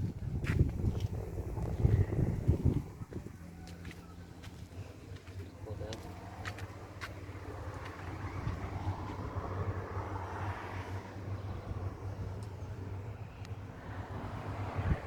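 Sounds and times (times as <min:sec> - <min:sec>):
pickup truck engine drone: 0:00.0 - 0:15.0
road and wind noise: 0:00.0 - 0:15.0.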